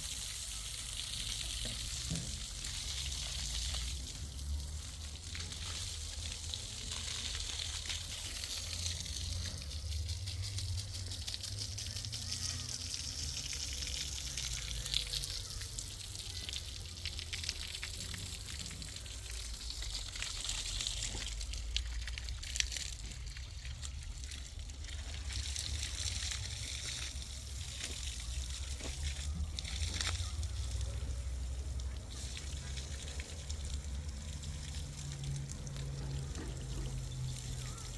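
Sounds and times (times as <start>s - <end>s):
water running and splashing: 0.0s - 37.9s.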